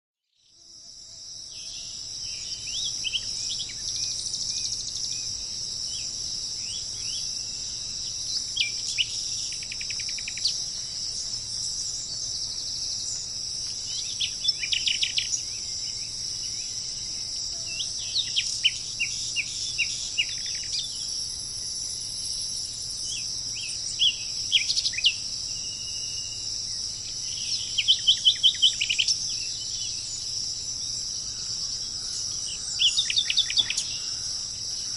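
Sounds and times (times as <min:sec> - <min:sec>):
crickets chirring: 0:00.4 - 0:34.9
songbirds chirping: 0:00.4 - 0:34.9.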